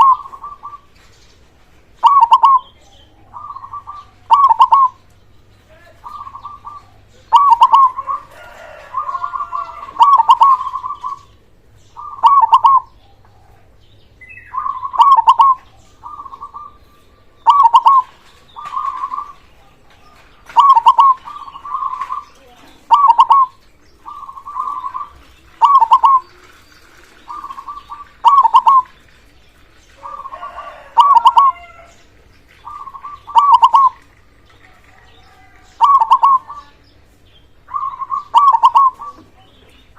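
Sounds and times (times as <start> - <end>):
dove cooing: 0.0 - 1.0, 2.0 - 5.1, 5.9 - 11.4, 12.0 - 29.1, 29.9 - 36.8, 37.6 - 39.9.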